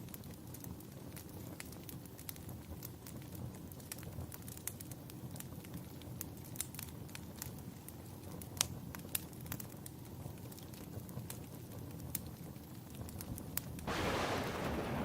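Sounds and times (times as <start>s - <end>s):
low rumble of burning: 0.0s - 15.0s
wood fire crackling and popping: 0.0s - 15.0s.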